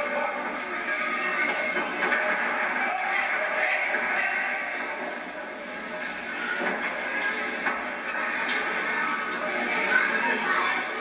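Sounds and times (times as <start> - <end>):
crowd murmur: 0.0 - 11.0.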